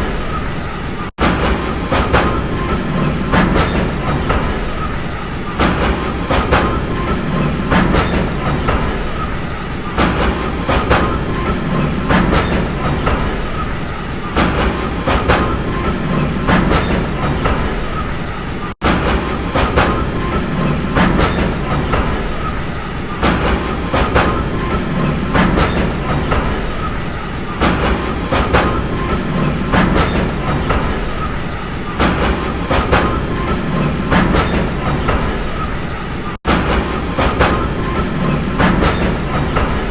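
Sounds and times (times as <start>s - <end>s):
train rumbling on rails: 0.0s - 39.9s
wheels clacking over rail joints: 0.0s - 39.9s.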